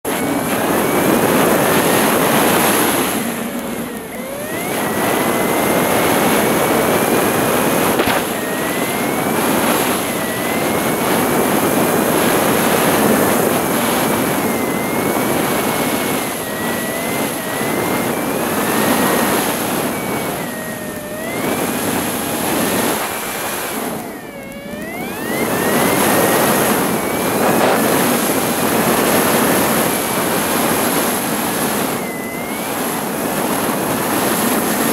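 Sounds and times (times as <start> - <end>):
motorcycle engine: 0.0 - 34.9
wind rushing over microphone: 0.0 - 34.9.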